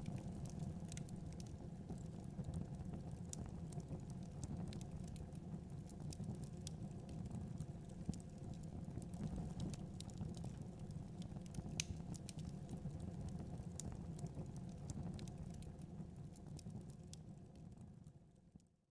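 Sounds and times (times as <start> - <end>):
wood fire crackling: 0.0 - 17.7.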